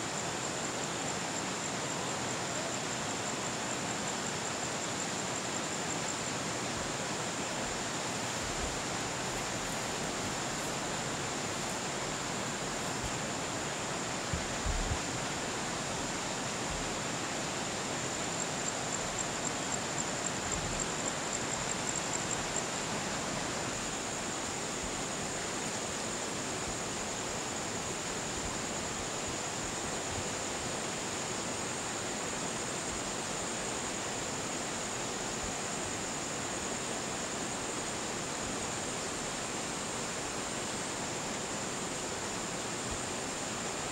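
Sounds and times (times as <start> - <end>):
flowing water rushing: 0.0 - 43.9.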